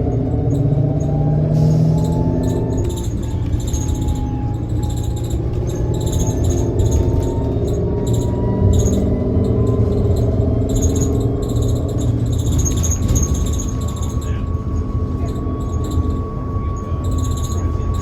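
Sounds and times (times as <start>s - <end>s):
low road rumble: 0.0s - 18.0s.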